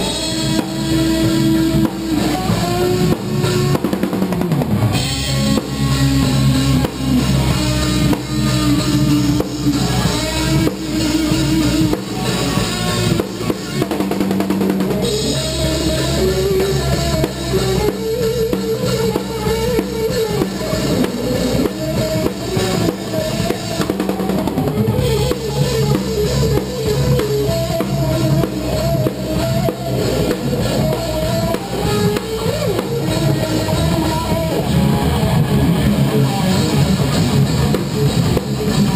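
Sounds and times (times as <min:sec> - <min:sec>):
drum kit rock beat: 0:00.0 - 0:38.9
rock band playing live: 0:00.0 - 0:38.9.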